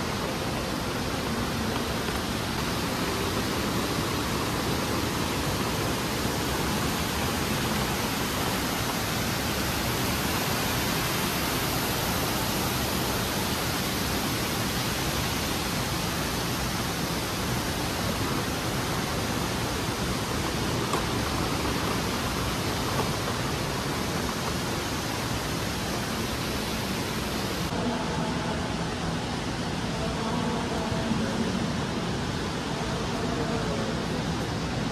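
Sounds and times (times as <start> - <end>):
indoor waterfall rushing: 0.0 - 34.9.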